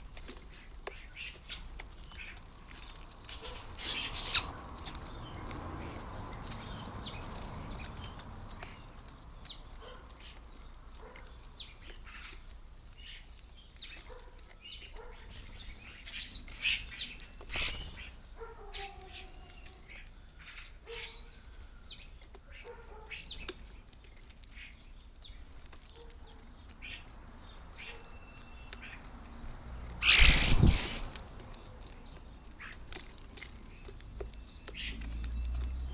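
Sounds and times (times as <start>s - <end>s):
loud bird calls: 0.0s - 35.9s
starlings clicking and whistling: 0.0s - 35.9s.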